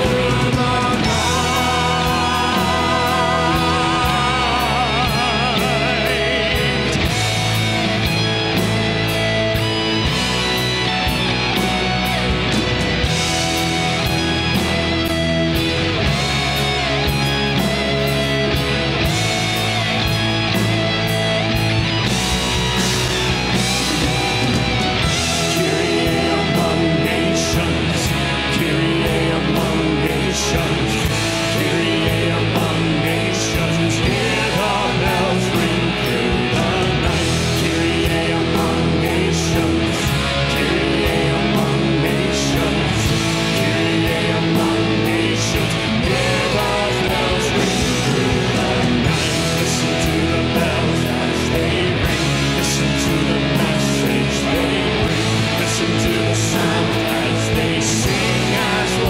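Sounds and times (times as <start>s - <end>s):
electric guitar: 0.0s - 59.0s
live rock band: 0.0s - 59.0s
steady drum beat: 0.0s - 59.0s.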